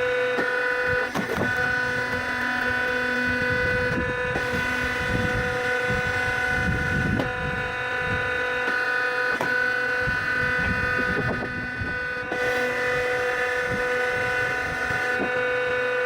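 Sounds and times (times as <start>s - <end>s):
sharp knocks of logs splitting: 0.0s - 5.6s, 6.7s - 7.4s, 8.0s - 14.0s, 14.6s - 15.7s
hydraulic wood splitter whining: 0.0s - 16.0s.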